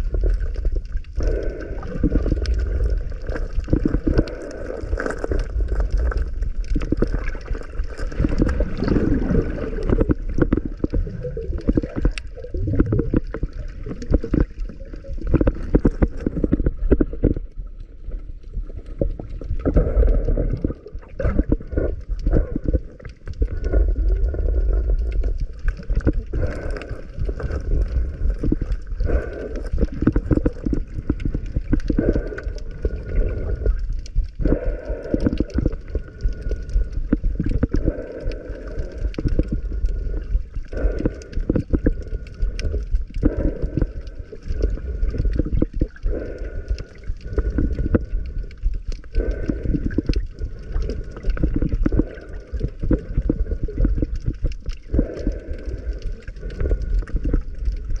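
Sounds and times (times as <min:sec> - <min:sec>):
underwater gurgling and bubbling: 0:00.0 - 0:58.0.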